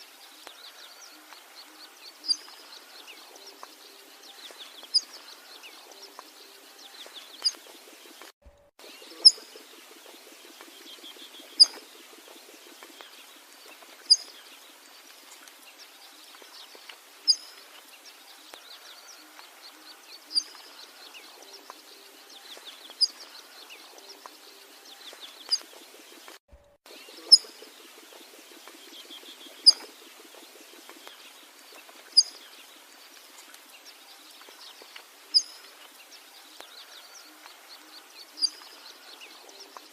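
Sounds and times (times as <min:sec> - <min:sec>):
faint background bird calls: 0:00.0 - 0:39.9.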